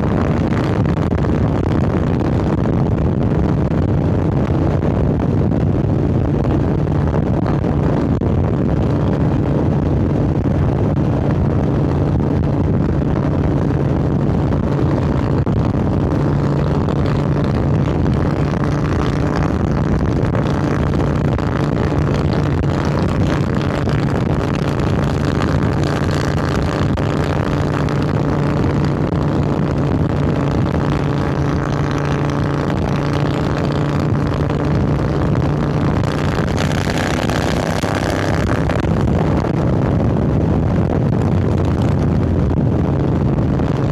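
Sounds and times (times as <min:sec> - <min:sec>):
motorcycle engine at steady speed: 0:00.0 - 0:43.9.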